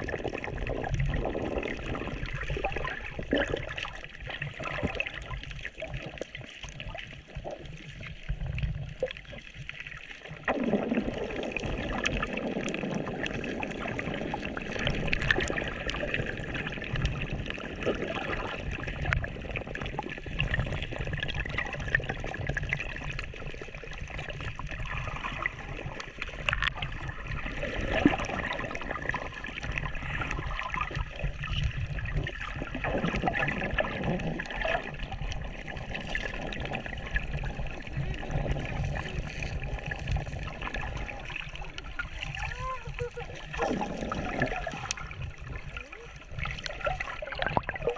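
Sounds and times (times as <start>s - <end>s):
seawater sloshing and gurgling: 0.0s - 47.9s
small bubbly clicks: 0.0s - 47.9s.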